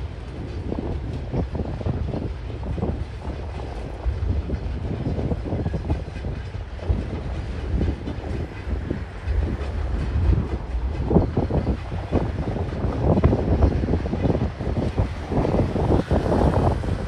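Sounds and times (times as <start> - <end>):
freight wagons rumbling: 0.0 - 17.0
wheel clatter and knocks: 0.0 - 17.0.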